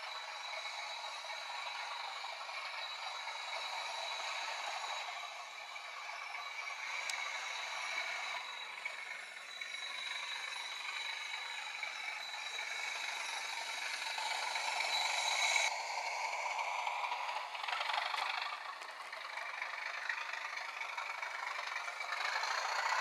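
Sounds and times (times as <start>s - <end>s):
high-pitched whine: 0.0s - 23.0s
model train rattling on track: 0.0s - 23.0s.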